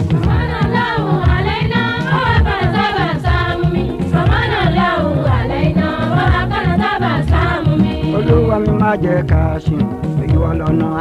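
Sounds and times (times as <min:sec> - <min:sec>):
steady beat: 0:00.0 - 0:11.0
voices singing a devotional song: 0:00.0 - 0:11.0.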